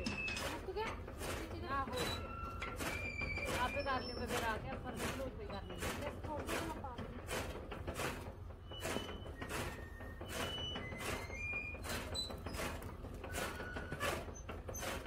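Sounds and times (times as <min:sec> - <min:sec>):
chaff cutter chopping: 0:00.0 - 0:15.0.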